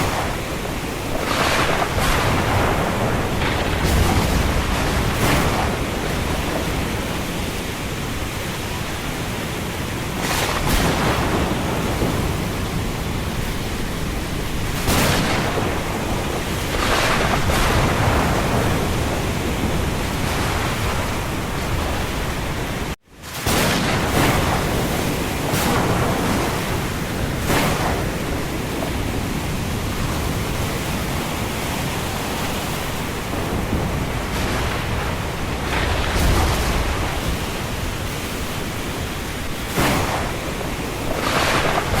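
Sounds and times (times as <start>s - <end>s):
gusting wind: 0.0s - 42.0s
rain: 0.0s - 42.0s.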